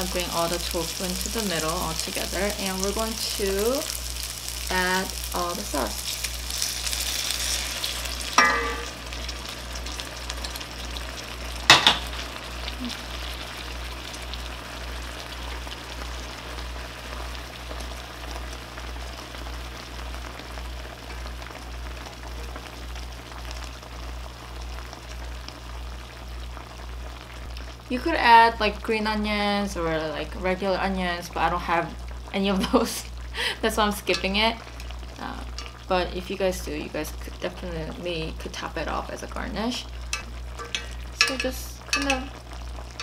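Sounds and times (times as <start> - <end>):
sauce sizzling in a pan: 0.0 - 43.0.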